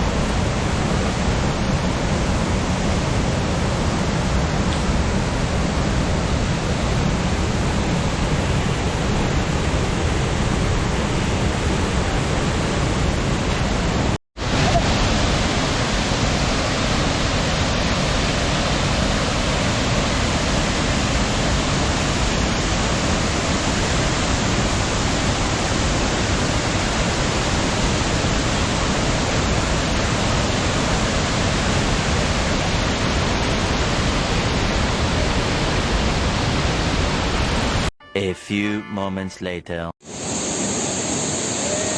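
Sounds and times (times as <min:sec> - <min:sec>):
waterfall roaring: 0:00.0 - 0:37.9, 0:40.0 - 0:41.9.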